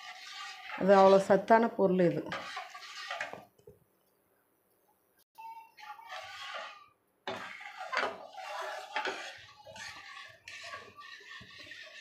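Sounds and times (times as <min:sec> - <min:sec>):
metal ladle scraping a steel pan: 0:00.0 - 0:03.5, 0:05.6 - 0:12.0.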